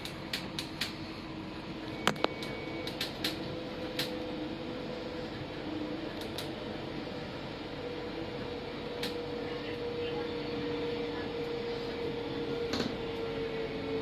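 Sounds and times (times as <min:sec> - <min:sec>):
electric train carriage hum: 0:00.0 - 0:14.0.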